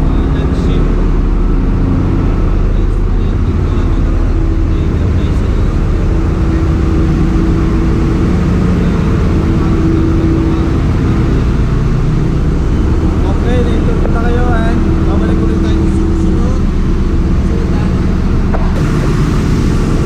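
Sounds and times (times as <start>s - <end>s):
engine-room machinery drone: 0.0s - 20.0s
low hum: 0.0s - 20.0s.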